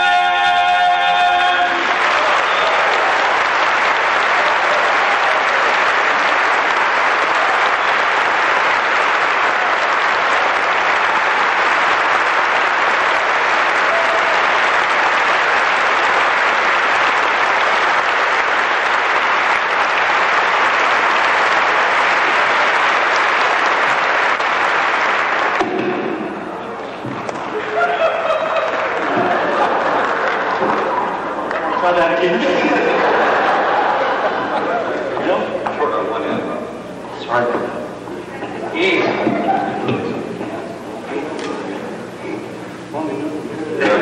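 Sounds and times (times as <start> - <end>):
audience applauding: 0.0 - 36.6.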